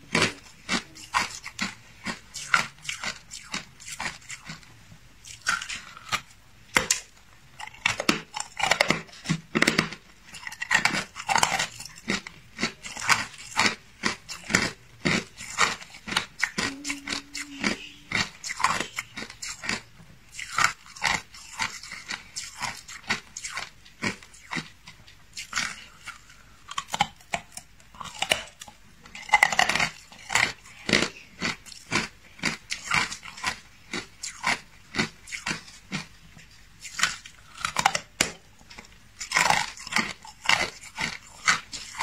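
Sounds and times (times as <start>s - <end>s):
ice crunching being chewed: 0.0s - 42.0s.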